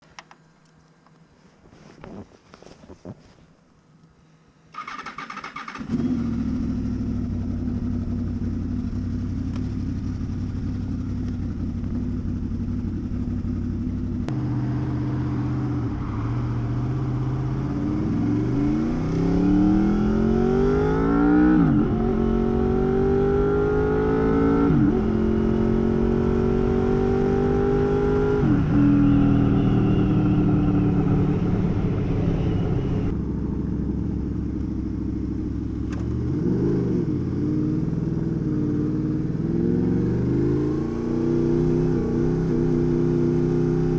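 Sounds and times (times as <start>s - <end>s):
motorcycle engine starting and revving: 4.7s - 43.9s.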